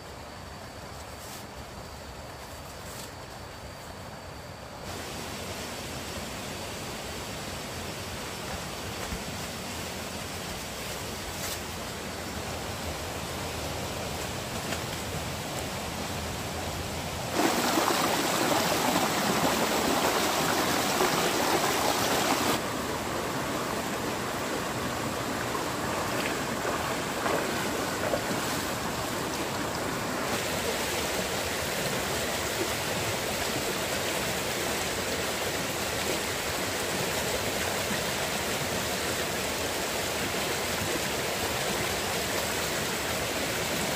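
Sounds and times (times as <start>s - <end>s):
stream rushing over stones: 4.9s - 43.9s.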